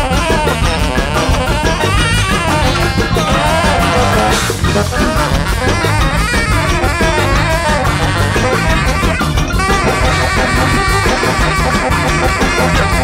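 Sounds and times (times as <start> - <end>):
large jazz band playing: 0.0 - 13.0.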